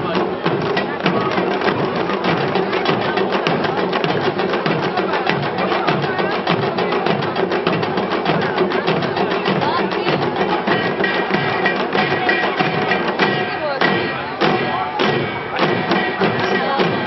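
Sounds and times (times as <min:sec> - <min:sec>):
hourglass drums playing fast rhythm: 0:00.0 - 0:17.0.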